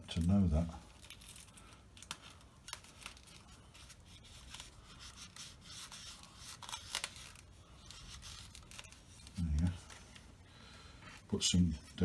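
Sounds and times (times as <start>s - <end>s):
tape rubbing and rustling: 0.1s - 10.4s.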